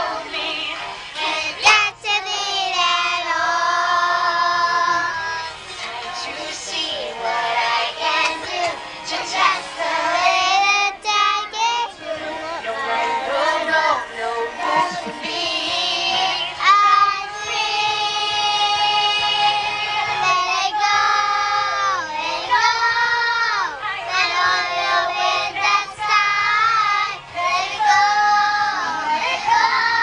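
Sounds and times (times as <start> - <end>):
children singing: 0.0 - 30.0.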